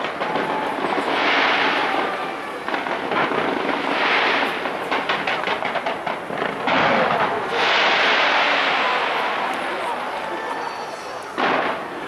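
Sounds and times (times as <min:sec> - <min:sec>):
fireworks crackling and popping: 0:00.0 - 0:12.0
fireworks hissing rush: 0:00.0 - 0:12.0.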